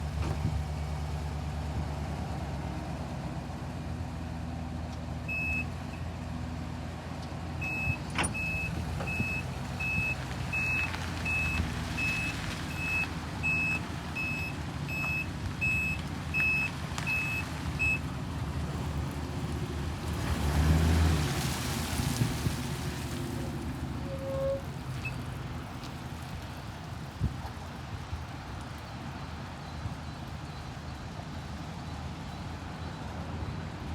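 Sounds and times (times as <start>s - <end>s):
truck engine running: 0.0s - 33.9s.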